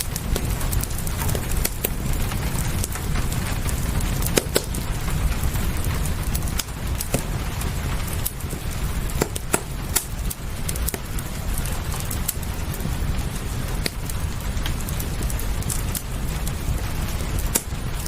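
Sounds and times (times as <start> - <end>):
fireplace crackling and popping: 0.0 - 18.0
low rumble: 0.0 - 18.0
rain hissing: 0.0 - 18.0.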